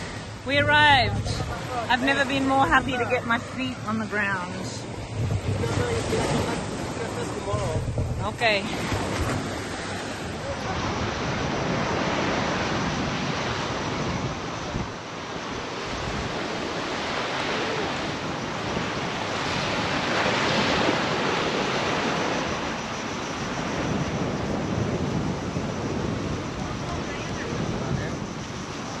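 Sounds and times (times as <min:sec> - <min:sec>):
sea waves washing onto shore: 0:00.0 - 0:29.0
wind buffeting microphone: 0:00.0 - 0:29.0.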